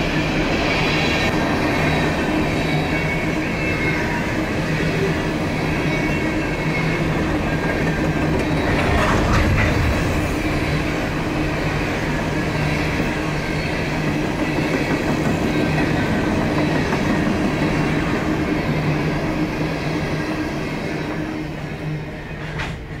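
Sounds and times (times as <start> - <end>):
freight train rolling on rails: 0.0 - 23.0
train cars clanking: 1.2 - 23.0.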